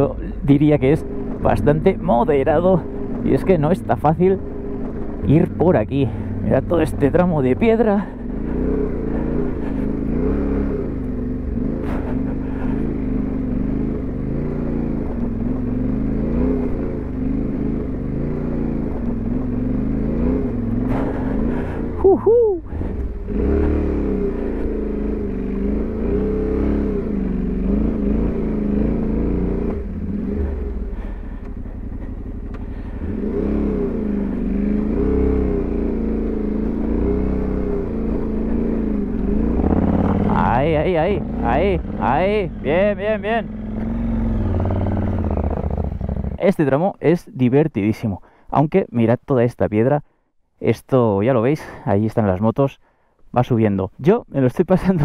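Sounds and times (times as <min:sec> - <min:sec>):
motorcycle engine revving: 0:00.0 - 0:46.8.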